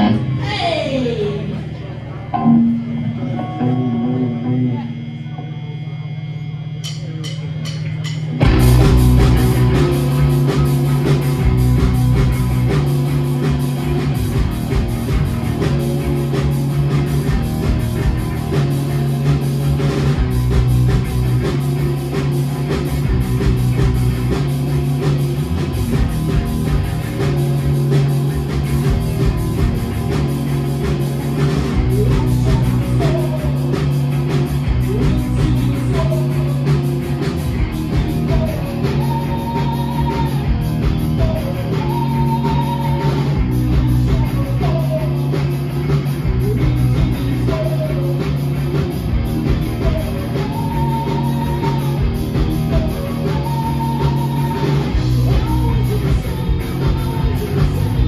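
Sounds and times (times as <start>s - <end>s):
bass guitar line: 0.0s - 58.0s
electric guitar: 0.0s - 58.0s
drum kit beat: 6.8s - 58.0s.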